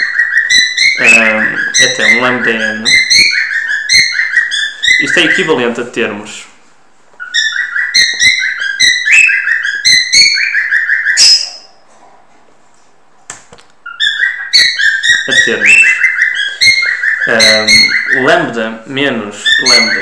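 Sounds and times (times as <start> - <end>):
stylus squeaking on a screen: 0.0 - 5.6, 7.2 - 11.8, 13.8 - 20.0.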